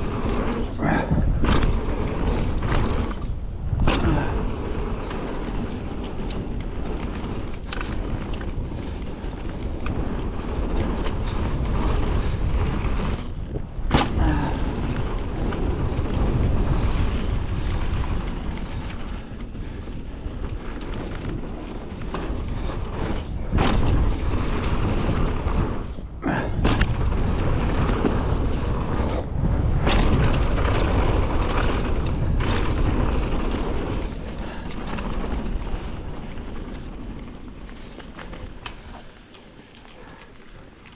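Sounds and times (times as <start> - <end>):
bike knocking on bumps: 0.0 - 40.9
bike tyres rolling: 0.0 - 40.9
wind on microphone: 0.0 - 40.9.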